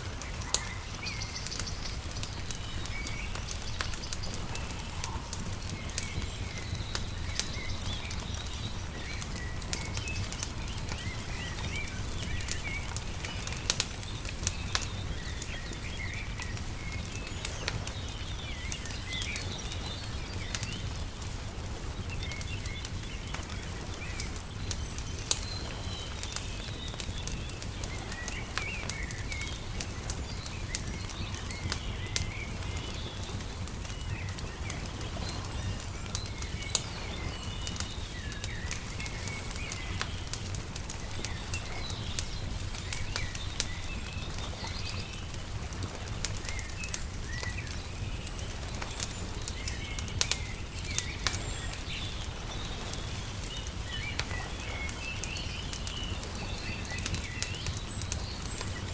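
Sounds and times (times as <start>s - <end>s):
small birds chirping: 0.0s - 58.9s
wood fire crackling: 0.0s - 58.9s.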